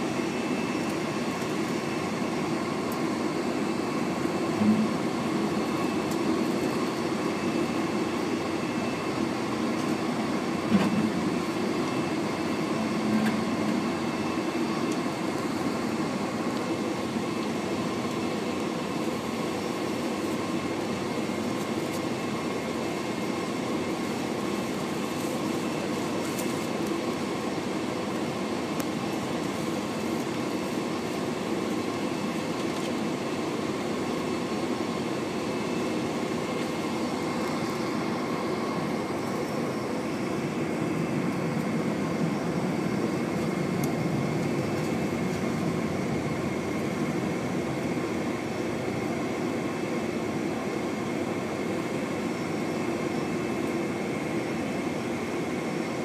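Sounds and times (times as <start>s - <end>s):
aircraft cabin engine hum: 0.0s - 56.0s.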